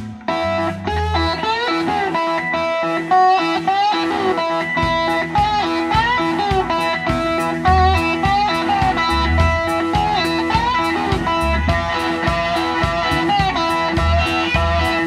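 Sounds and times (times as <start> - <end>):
bass and drum beat: 0.0 - 15.0
bluesy rock music: 0.0 - 15.0
electric guitar lead: 0.0 - 15.0.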